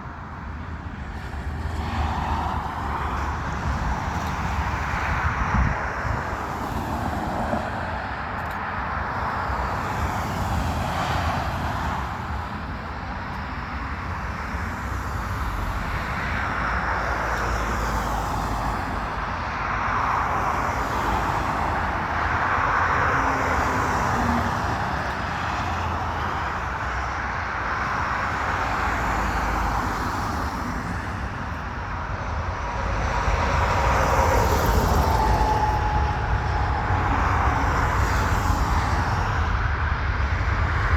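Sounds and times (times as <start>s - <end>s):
jet engines at takeoff: 0.0s - 40.9s.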